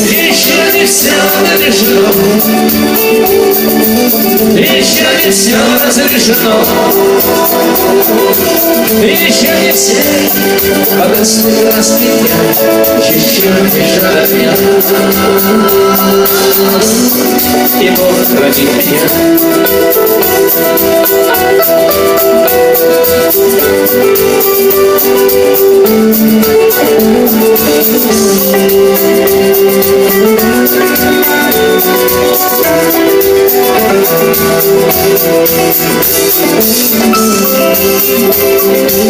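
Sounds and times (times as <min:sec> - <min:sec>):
live rock band: 0:00.0 - 0:39.0
melodic lead guitar: 0:00.0 - 0:39.0
steady drum beat: 0:00.0 - 0:39.0.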